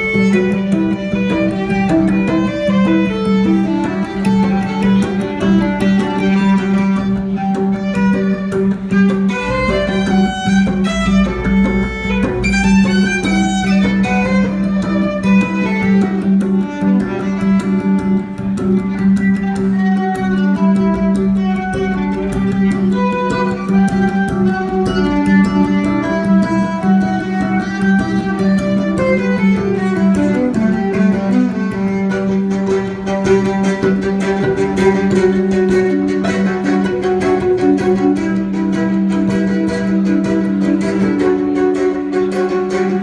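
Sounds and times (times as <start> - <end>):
guitar and strings music: 0.0 - 43.0
regular beat: 0.0 - 43.0.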